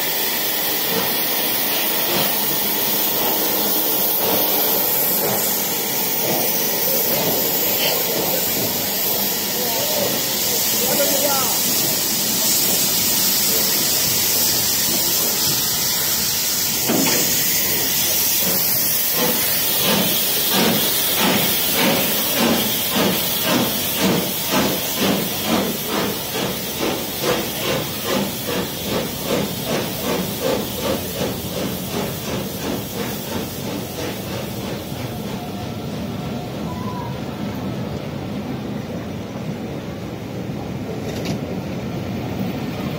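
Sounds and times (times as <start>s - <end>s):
steam hissing: 0.0s - 42.9s
steam locomotive exhaust beats: 0.0s - 42.9s.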